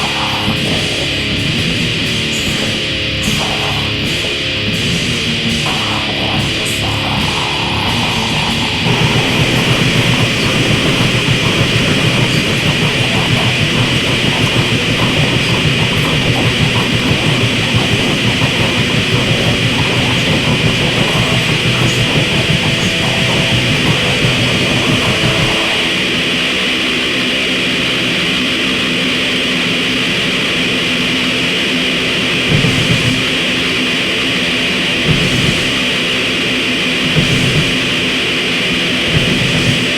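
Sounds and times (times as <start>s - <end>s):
distorted grind music: 0.0s - 39.9s.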